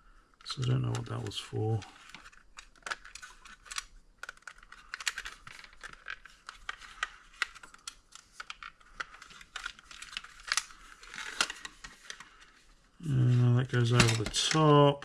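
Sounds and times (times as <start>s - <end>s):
small parts clicking and scraping: 0.4s - 12.5s.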